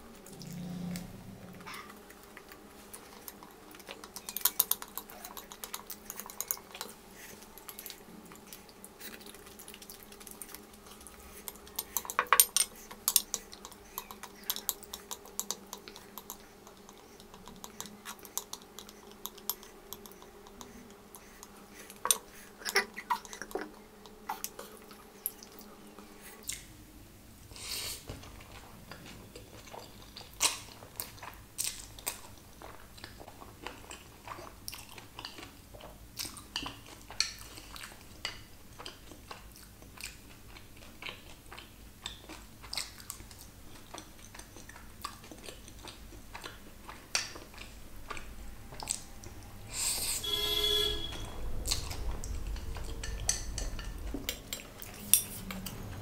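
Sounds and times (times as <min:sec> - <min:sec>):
chewing: 0:00.0 - 0:26.7, 0:27.5 - 0:50.0, 0:51.5 - 0:56.0.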